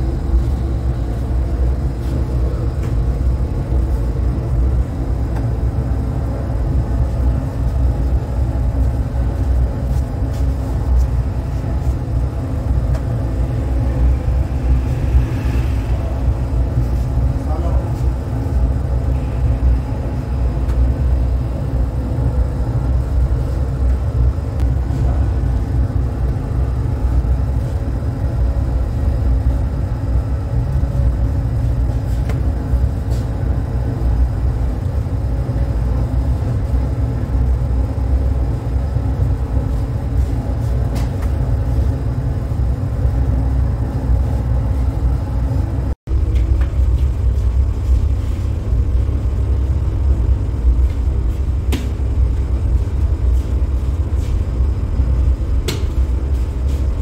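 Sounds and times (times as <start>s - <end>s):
bakery machinery low rumble: 0.0s - 57.0s
faint hum: 0.0s - 57.0s.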